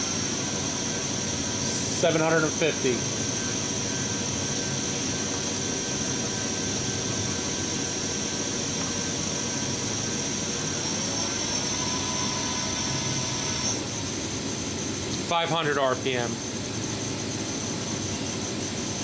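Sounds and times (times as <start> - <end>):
machine running noise: 0.0 - 19.0
machine spindle high-pitched whine: 0.0 - 19.0.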